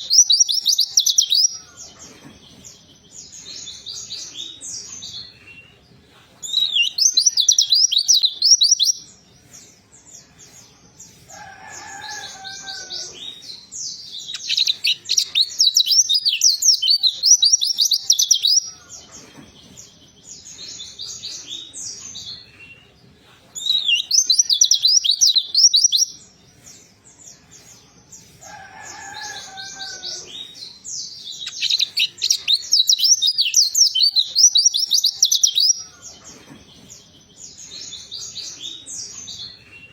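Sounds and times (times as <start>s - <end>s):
bird twittering song: 0.0s - 5.8s, 6.4s - 10.6s, 11.3s - 23.0s, 23.6s - 39.9s.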